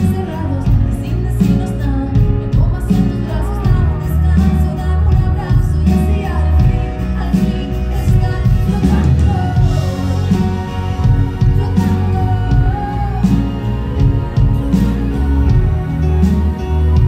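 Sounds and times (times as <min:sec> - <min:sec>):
heavy pulsing bass: 0:00.0 - 0:17.0
keyboard accompaniment: 0:00.0 - 0:17.0
woman singing: 0:00.0 - 0:17.0.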